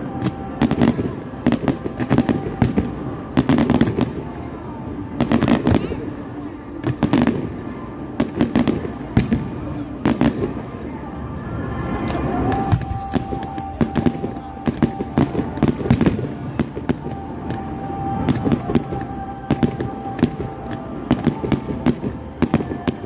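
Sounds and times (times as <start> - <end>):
fireworks bangs and crackles: 0.0 - 23.0
steady high tone: 0.0 - 23.0.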